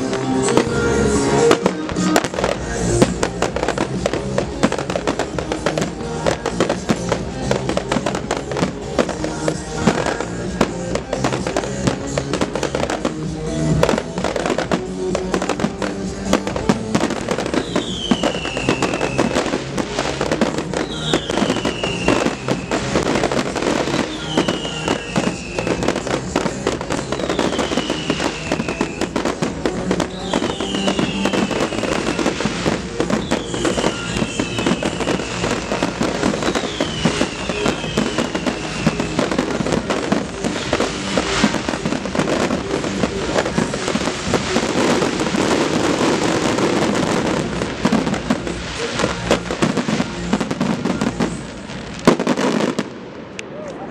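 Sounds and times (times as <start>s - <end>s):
fireworks bursting and crackling: 0.0s - 53.9s
music playing: 0.0s - 53.9s.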